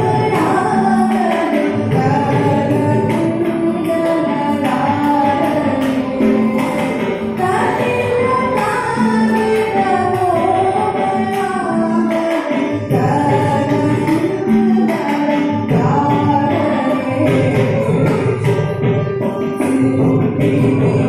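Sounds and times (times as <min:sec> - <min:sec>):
hand drum strokes: 0:00.0 - 0:21.0
violin: 0:00.0 - 0:21.0
woman singing: 0:00.0 - 0:21.0.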